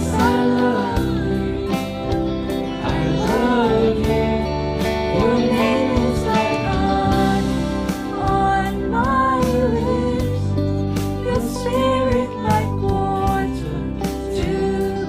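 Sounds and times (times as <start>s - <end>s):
band accompaniment with steady beat: 0.0s - 14.9s
person singing: 0.0s - 15.0s.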